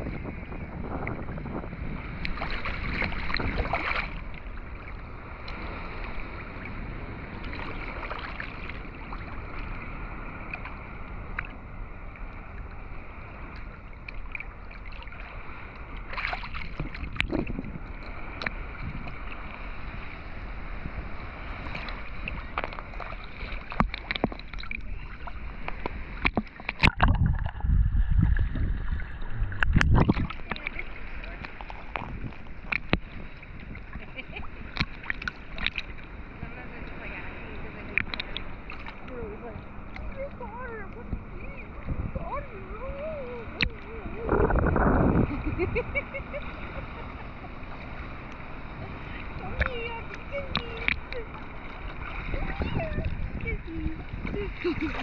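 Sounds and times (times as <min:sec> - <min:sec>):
water sloshing and splashing: 0:00.0 - 0:55.0
wind buffeting microphone: 0:00.0 - 0:55.0.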